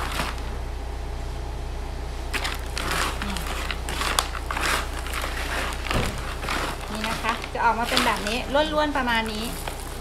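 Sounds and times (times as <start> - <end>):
potting mix rustling crunch: 0.0 - 0.9, 2.1 - 10.0
steady low hum: 0.0 - 10.0.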